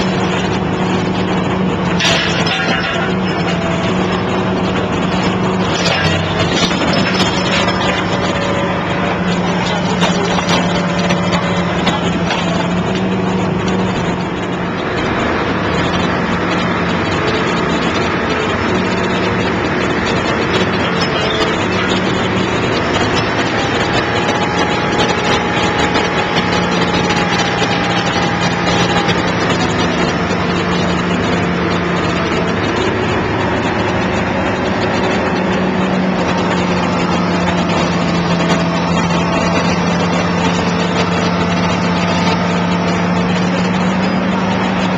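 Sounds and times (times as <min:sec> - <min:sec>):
excavator diesel engine running: 0:00.0 - 0:44.9
high steady whine: 0:00.0 - 0:44.9
pile cutter crushing concrete: 0:00.0 - 0:44.9.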